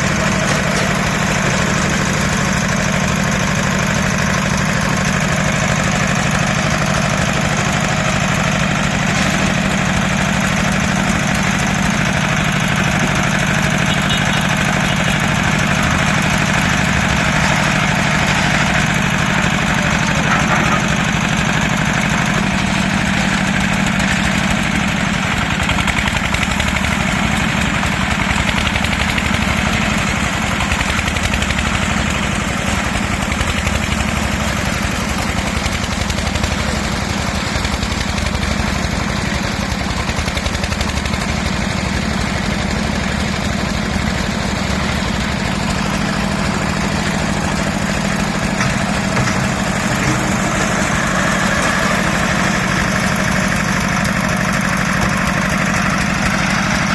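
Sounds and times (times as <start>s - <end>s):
machine engine running: 0.0s - 56.9s.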